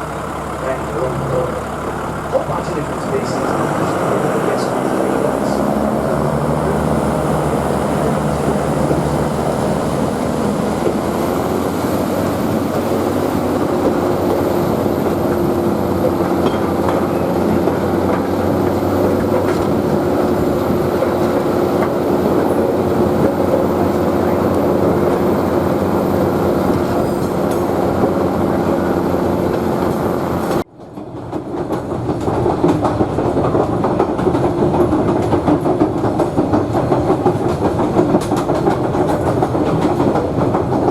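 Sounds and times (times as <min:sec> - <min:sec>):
diesel engine drone: 0:00.0 - 0:40.9
train wheels clicking over rail joints: 0:00.0 - 0:40.9.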